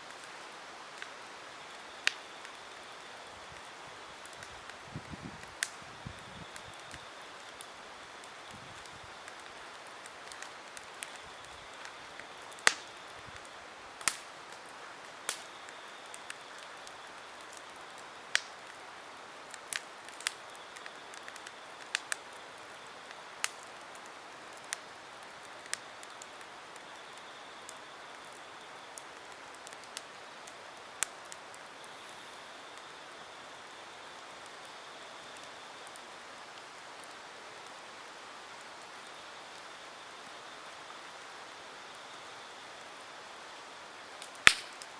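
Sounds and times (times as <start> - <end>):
campfire crackling and popping: 0.0 - 44.9
fire hiss: 0.0 - 44.9.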